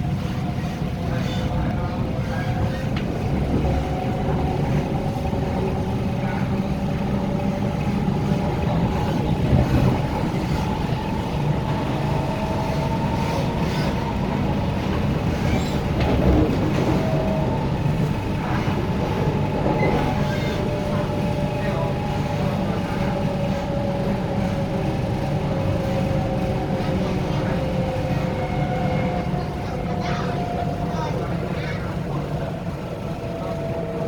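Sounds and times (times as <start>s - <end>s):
train rumble: 0.0s - 34.0s.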